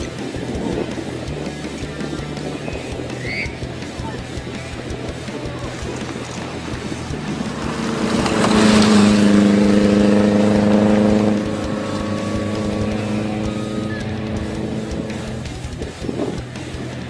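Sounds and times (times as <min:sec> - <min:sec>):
rally buggy engine passing: 0:00.0 - 0:17.0.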